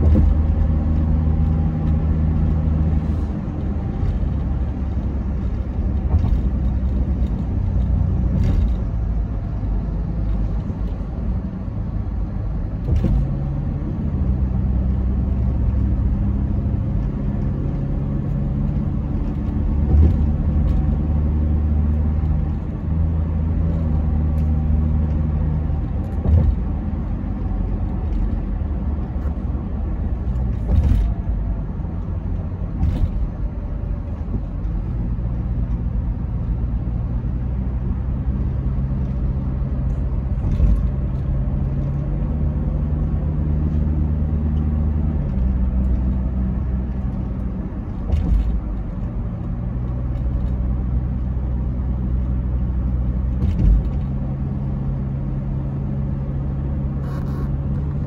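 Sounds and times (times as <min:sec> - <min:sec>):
car engine and tyres droning: 0:00.0 - 0:58.0.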